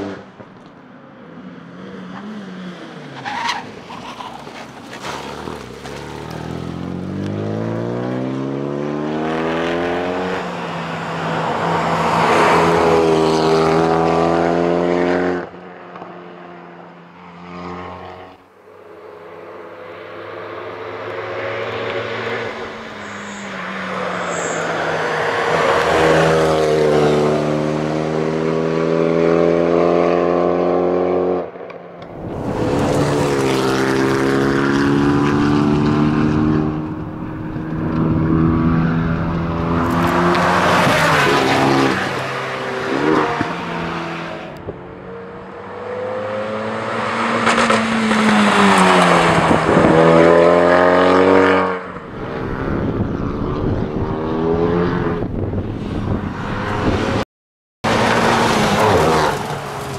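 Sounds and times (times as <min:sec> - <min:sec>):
race car engine passing by: 0:01.4 - 0:57.2, 0:57.9 - 0:59.9.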